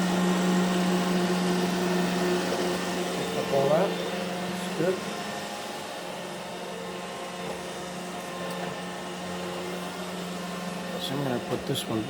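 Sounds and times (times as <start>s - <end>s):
robot vacuum humming: 0.0s - 12.0s.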